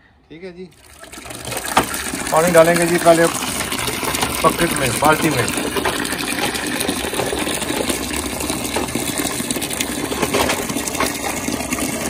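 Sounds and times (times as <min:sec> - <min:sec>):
tap water pouring into bucket: 0:00.7 - 0:12.0.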